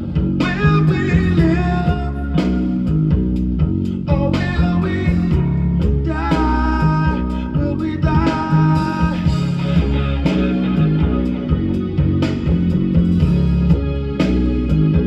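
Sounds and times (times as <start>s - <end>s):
guitar and singing music: 0.0s - 15.0s.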